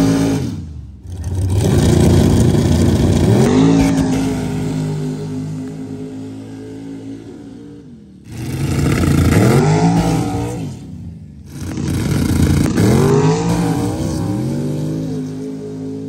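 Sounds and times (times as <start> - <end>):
drag racing engines revving: 0.0 - 16.0.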